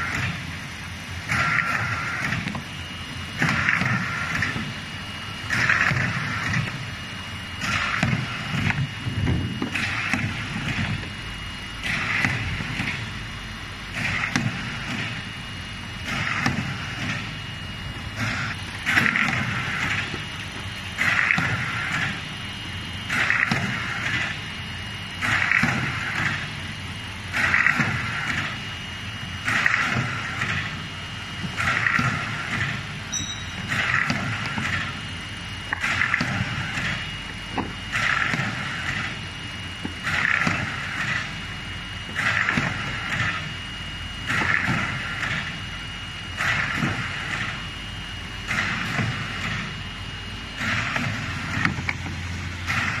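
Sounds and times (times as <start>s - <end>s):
low machine hum: 0.0s - 53.0s
machine noise bursts: 0.0s - 53.0s.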